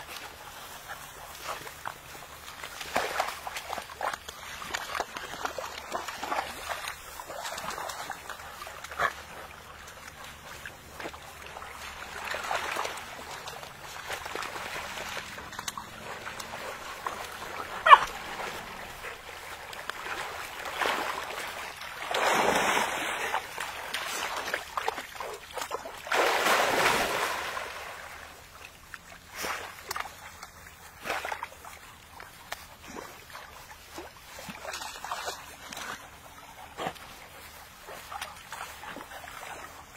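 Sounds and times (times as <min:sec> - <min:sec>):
dogs splashing through water: 0:00.0 - 0:39.9.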